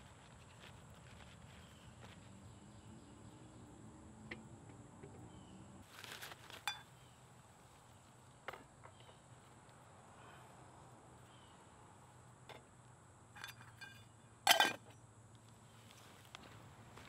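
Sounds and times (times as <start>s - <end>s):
faint woodland background: 0.0s - 17.0s.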